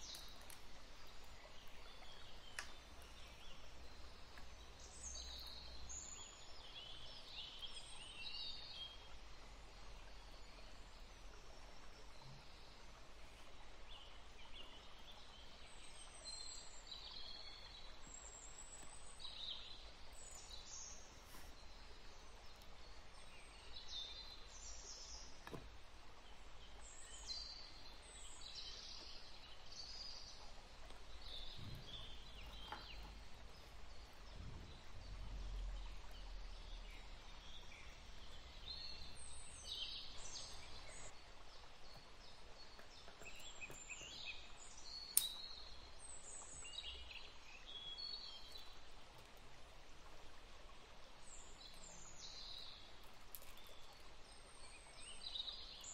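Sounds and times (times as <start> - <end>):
faint steady hiss: 0.0 - 55.9.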